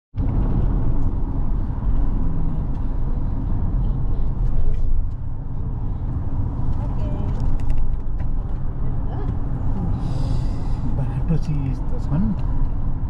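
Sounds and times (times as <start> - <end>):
low rumble: 0.2 - 13.0.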